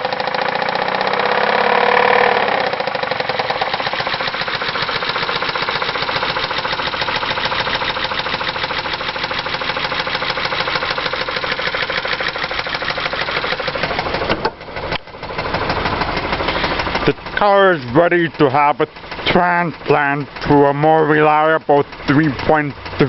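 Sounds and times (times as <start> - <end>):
car engine idling with knock: 0.0 - 23.0.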